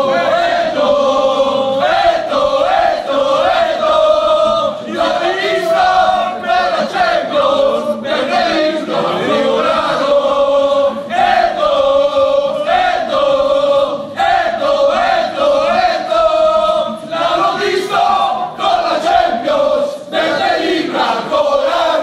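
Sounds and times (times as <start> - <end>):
crowd chanting in unison: 0.0 - 22.0.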